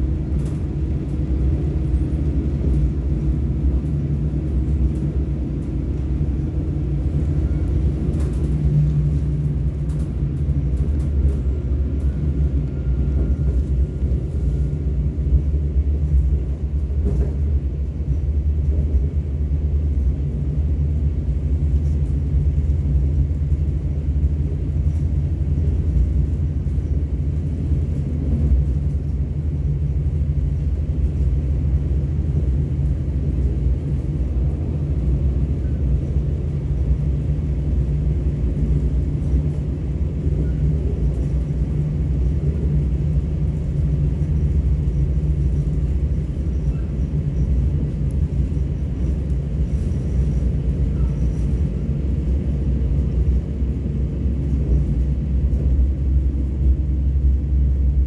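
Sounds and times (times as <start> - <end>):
train rumble from inside coach: 0.0 - 58.0.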